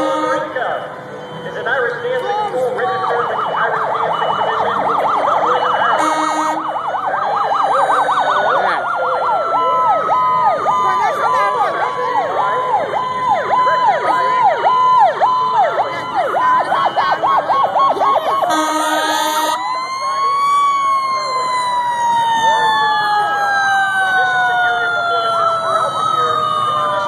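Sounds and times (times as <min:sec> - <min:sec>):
emergency vehicle sirens: 0:00.0 - 0:27.0.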